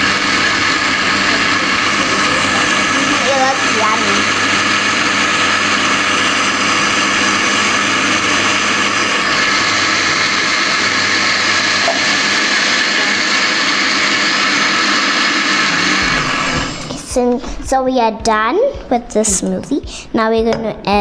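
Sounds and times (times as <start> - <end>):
blender running: 0.0 - 17.4.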